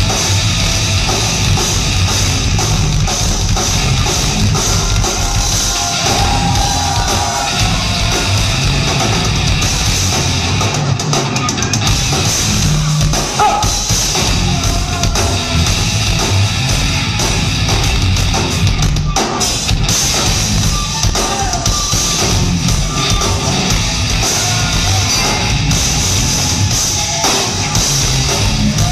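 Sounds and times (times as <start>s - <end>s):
drum kit pounding: 0.0s - 28.9s
live heavy metal band: 0.0s - 28.9s.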